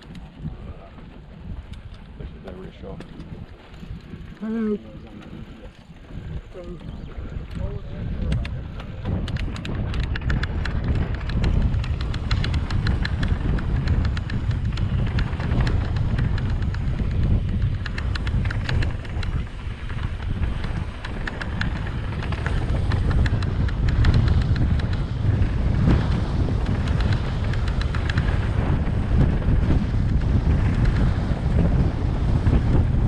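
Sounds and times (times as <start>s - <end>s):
wind buffeting camera microphone: 0.0s - 33.0s
bike tyres rattling over dirt: 5.2s - 33.0s.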